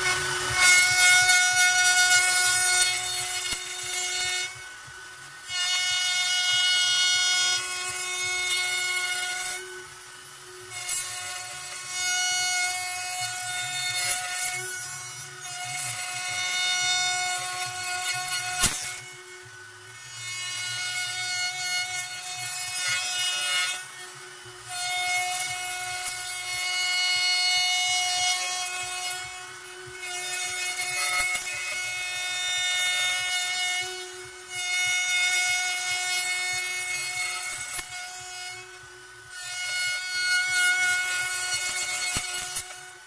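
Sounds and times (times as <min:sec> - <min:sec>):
router bit cutting wood: 0:00.0 - 0:43.0
router motor whine: 0:00.0 - 0:43.0.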